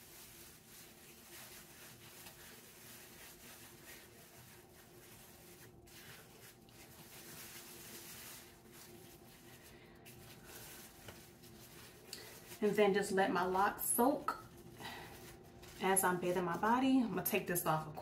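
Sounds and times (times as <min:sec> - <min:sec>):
plastic shower cap rustling: 0:00.0 - 0:17.6.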